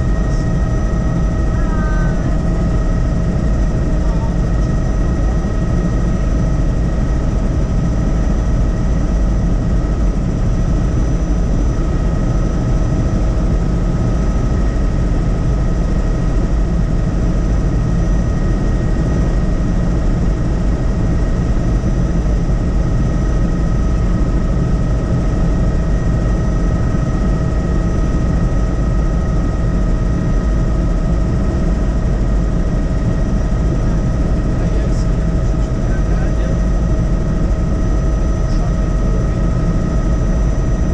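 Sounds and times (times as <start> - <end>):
helicopter rotor rumble: 0.0 - 40.9.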